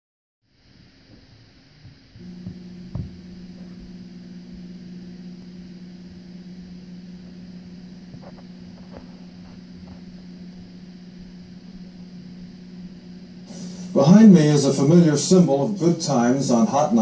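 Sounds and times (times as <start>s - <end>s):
electrical hum and hiss: 0.5s - 17.0s.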